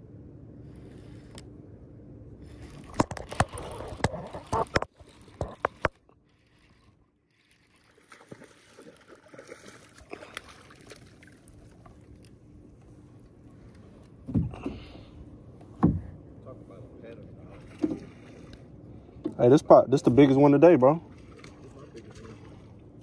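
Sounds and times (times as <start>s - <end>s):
water sloshing along hull: 0.5s - 23.0s.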